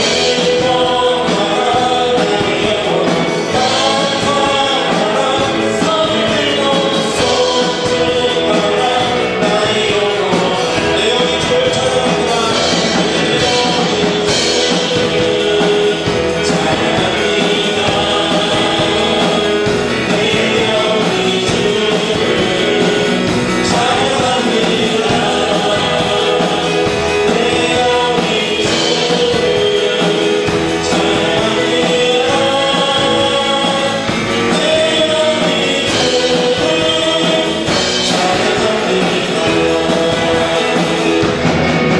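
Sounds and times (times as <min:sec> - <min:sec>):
band accompaniment: 0:00.0 - 0:41.9
voices singing together: 0:00.0 - 0:41.9.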